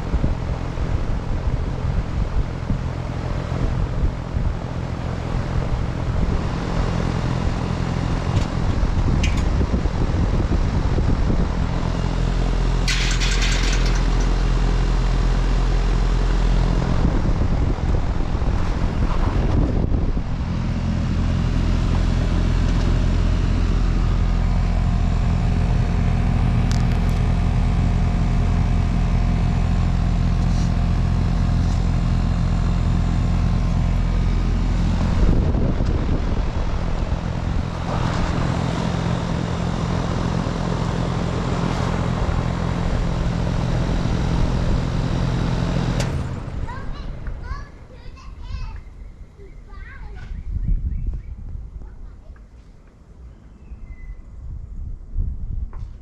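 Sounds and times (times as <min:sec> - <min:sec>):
condenser fan whooshing: 0:00.0 - 0:48.8.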